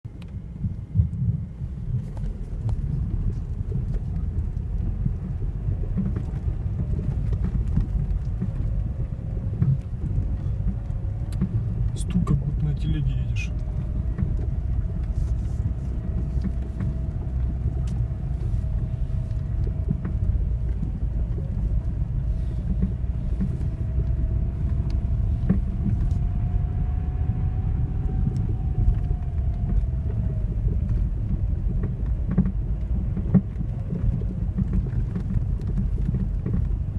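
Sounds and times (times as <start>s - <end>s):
low road rumble: 0.0s - 36.9s
faint engine tone: 0.1s - 36.9s.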